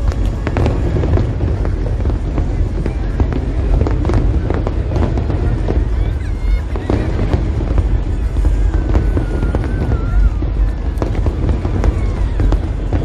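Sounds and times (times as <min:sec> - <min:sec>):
deep continuous rumble: 0:00.0 - 0:13.0
firework whistle: 0:00.0 - 0:13.0
fireworks bangs and crackles: 0:00.0 - 0:13.0.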